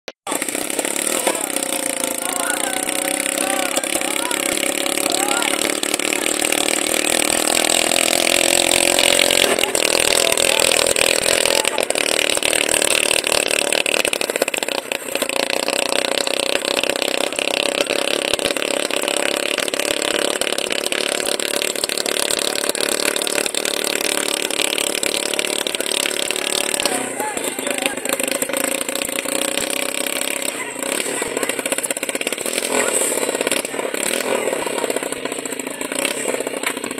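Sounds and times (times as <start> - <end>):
small petrol engine running: 0.1 - 36.9.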